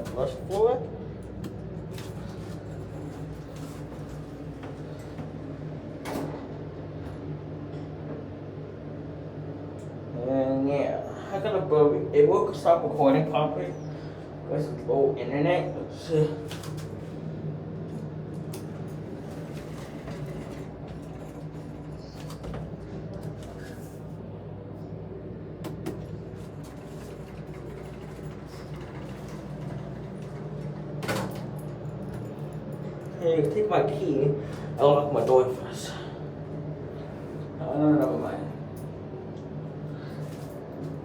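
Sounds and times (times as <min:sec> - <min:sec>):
elevator hum: 0:00.0 - 0:41.0.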